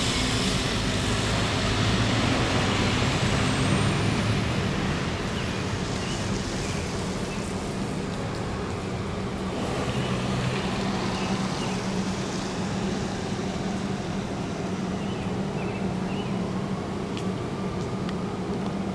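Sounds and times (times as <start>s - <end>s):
street noise: 0.0s - 18.9s
vehicle engine hum: 0.0s - 18.9s.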